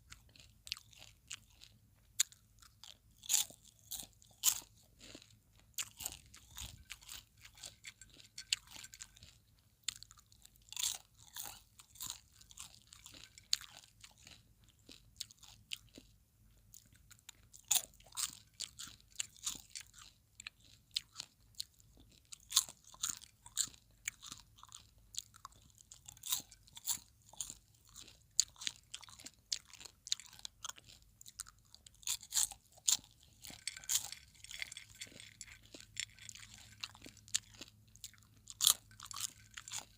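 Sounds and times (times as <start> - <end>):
popcorn crunching being chewed: 0.0 - 39.9.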